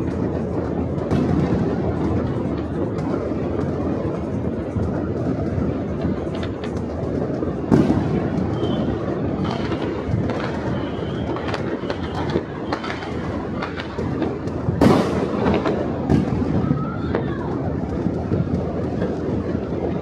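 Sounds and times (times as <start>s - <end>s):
firecracker cracks and pops: 0.0s - 20.0s
rumble of distant fireworks: 0.0s - 20.0s.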